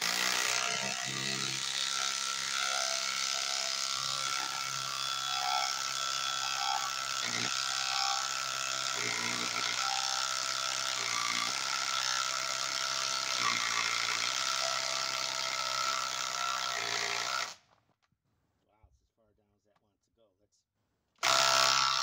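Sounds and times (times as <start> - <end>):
impact driver hammering: 0.0 - 17.6, 21.2 - 22.0.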